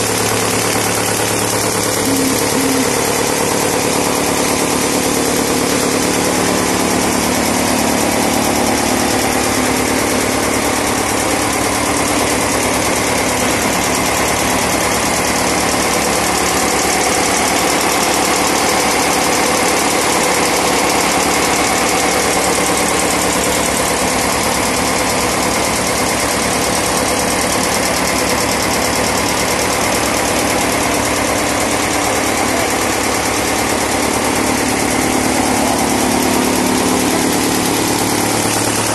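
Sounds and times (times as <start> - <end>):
blower machine engine running: 0.0 - 38.9.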